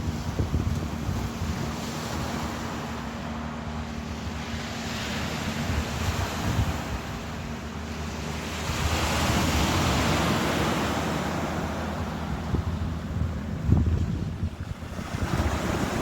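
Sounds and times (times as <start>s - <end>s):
ocean surf: 0.0s - 16.0s
wind rumble on microphone: 0.0s - 16.0s.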